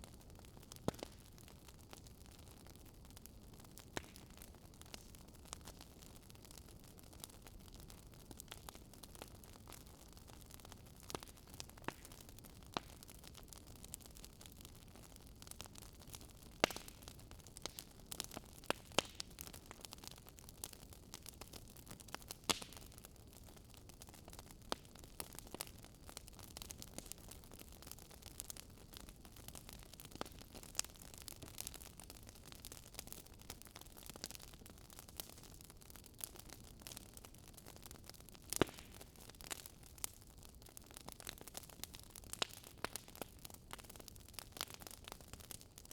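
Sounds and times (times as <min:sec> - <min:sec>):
burning logs popping: 0:00.0 - 0:45.9.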